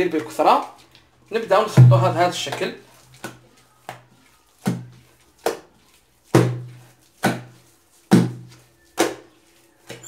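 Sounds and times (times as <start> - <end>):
dough slapped on tiled worktop: 1.8 - 10.0.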